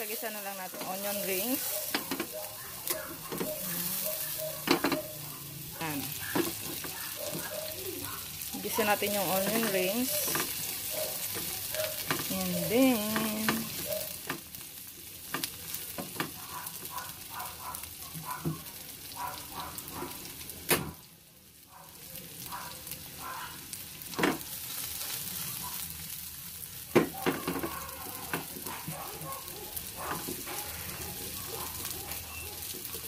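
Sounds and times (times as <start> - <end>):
onion rings sizzling in a pan: 0.0 - 33.0.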